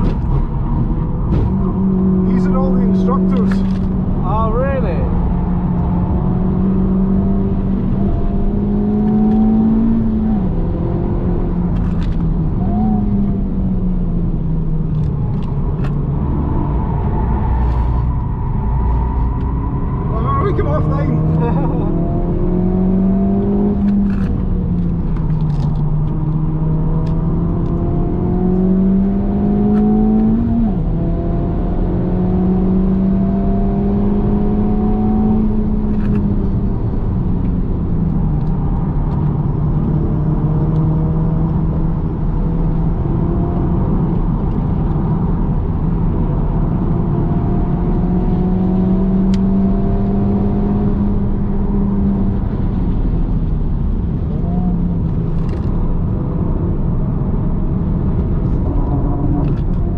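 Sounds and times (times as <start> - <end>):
car engine revving: 0.0 - 59.9
tyre and road noise: 0.0 - 59.9.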